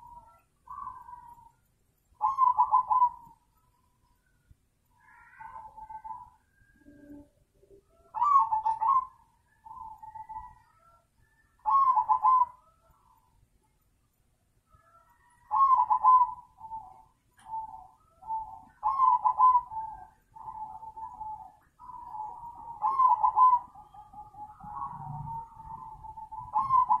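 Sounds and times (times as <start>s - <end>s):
doves cooing: 0.0s - 1.6s, 2.2s - 4.0s, 4.9s - 13.3s, 14.7s - 27.0s.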